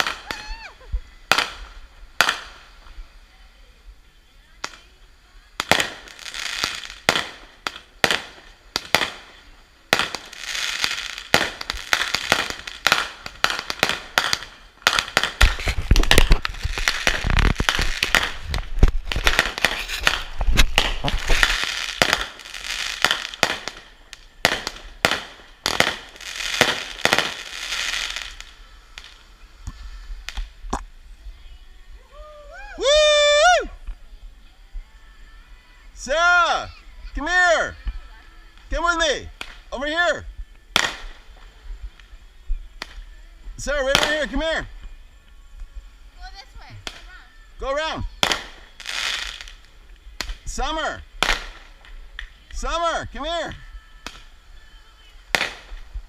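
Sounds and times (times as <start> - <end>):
fireworks bangs and crackling: 0.0 - 3.3, 4.6 - 31.0, 38.5 - 45.0, 45.6 - 56.0.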